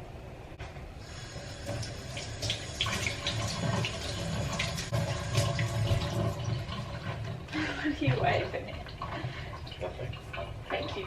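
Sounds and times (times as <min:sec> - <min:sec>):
liquid pouring: 0:01.0 - 0:11.0.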